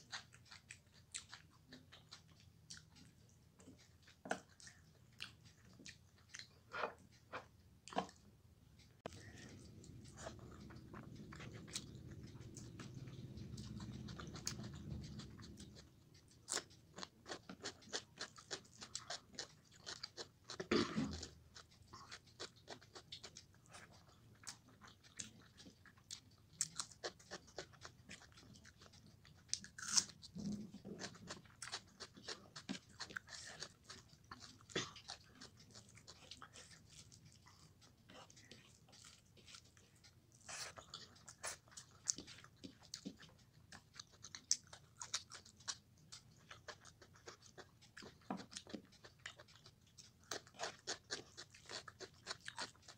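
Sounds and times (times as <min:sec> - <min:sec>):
wet chewing mouth clicks: 0:00.0 - 0:52.9.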